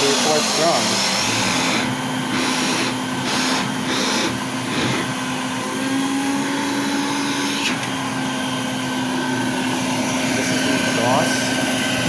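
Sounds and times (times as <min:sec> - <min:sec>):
vacuum cleaner motor hum: 0:00.0 - 0:12.0.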